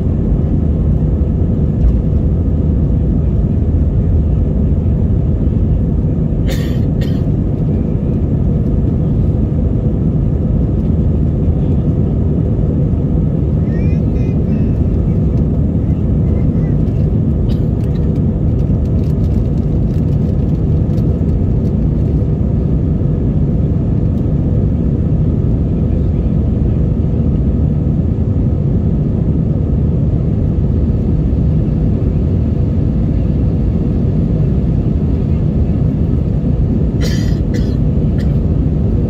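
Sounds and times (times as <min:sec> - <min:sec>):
airplane cabin roar: 0:00.0 - 0:39.0.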